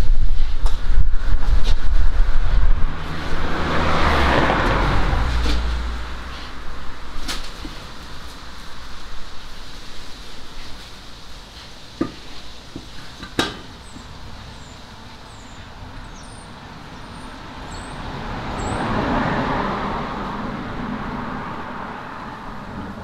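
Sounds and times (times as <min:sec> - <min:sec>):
road vehicle passing by: 0:00.3 - 0:12.5, 0:13.7 - 0:23.0.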